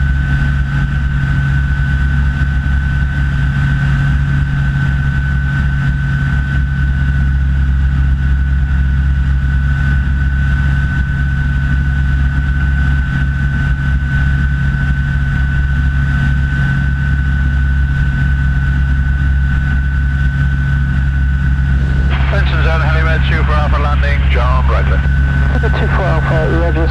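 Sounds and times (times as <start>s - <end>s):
light aircraft engine drone: 0.0s - 26.9s.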